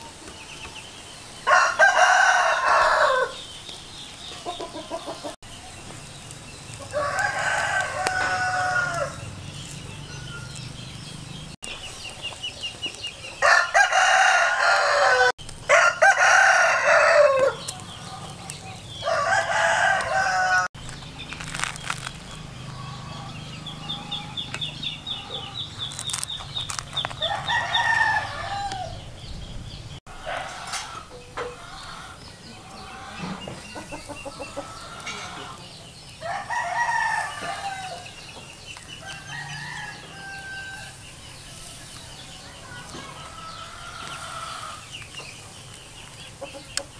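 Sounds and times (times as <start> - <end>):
roosters crowing: 0.0 - 45.5
chickens clucking: 0.0 - 46.9.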